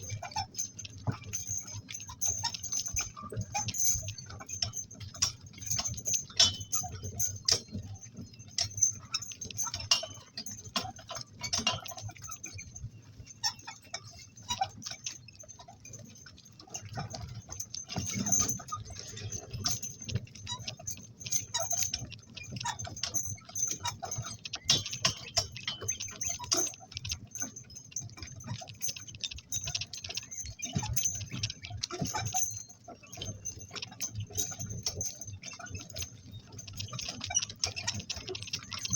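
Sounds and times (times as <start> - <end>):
metallic clinks from harness: 0.0 - 38.9.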